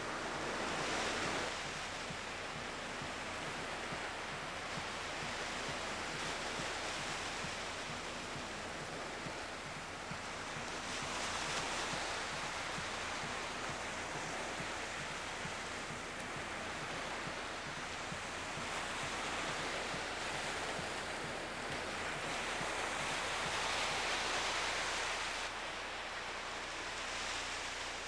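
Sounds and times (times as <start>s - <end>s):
ocean surf on beach: 0.0s - 28.0s.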